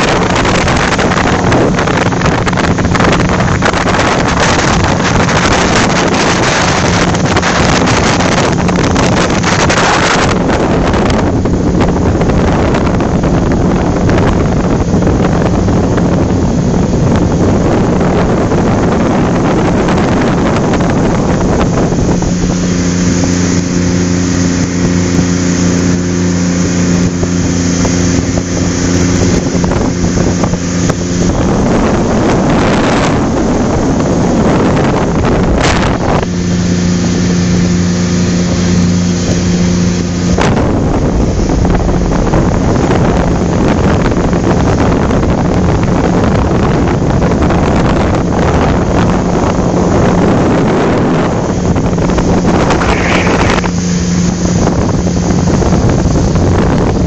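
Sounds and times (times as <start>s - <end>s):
motorboat engine drone: 0.0s - 57.0s
wind buffeting microphone: 0.0s - 57.0s.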